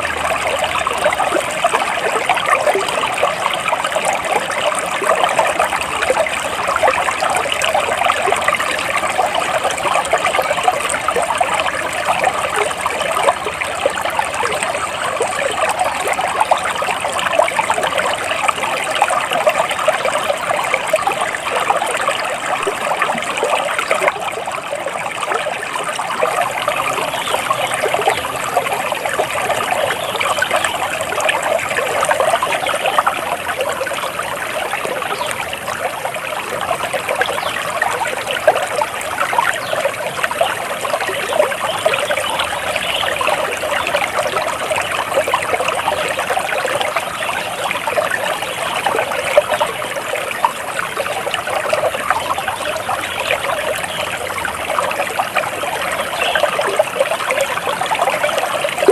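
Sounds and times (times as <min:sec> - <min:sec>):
water trickling and babbling: 0:00.0 - 0:58.9.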